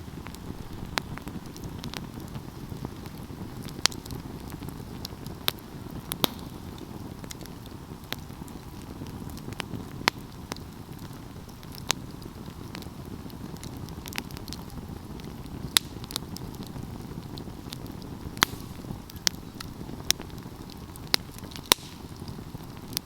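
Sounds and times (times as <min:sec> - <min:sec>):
fire crackling and popping: 0:00.0 - 0:23.0
wood fire burning: 0:00.0 - 0:23.0.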